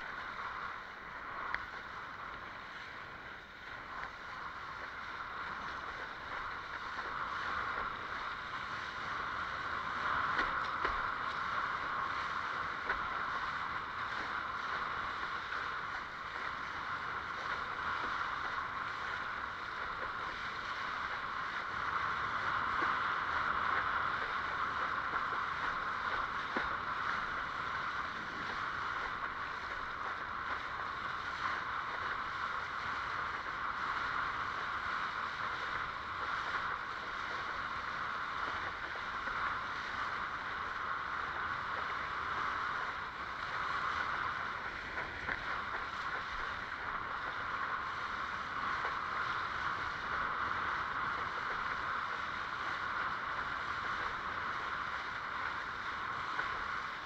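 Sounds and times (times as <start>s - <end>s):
water rushing past hull: 0.0s - 57.0s.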